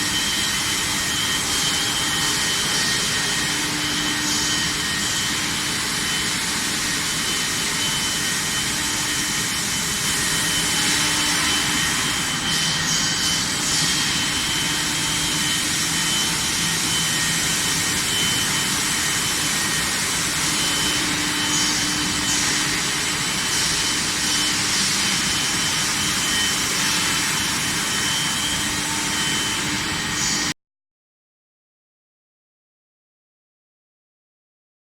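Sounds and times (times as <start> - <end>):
faint high whining tones: 0.0 - 30.6
industrial machinery drone: 0.0 - 30.6.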